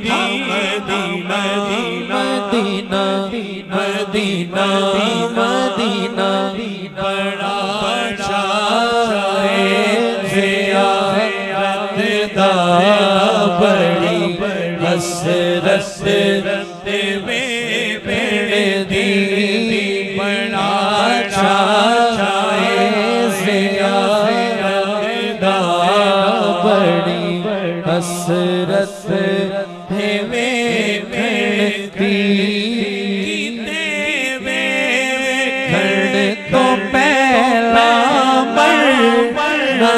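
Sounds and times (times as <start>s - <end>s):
man singing into a microphone: 0.0s - 39.9s.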